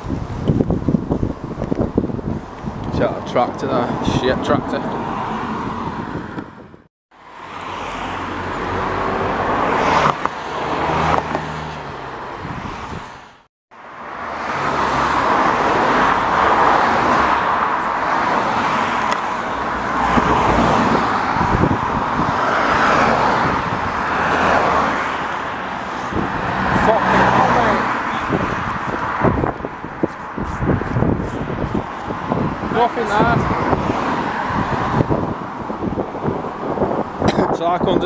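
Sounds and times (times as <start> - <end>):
vehicles driving past: 0.1 - 38.0.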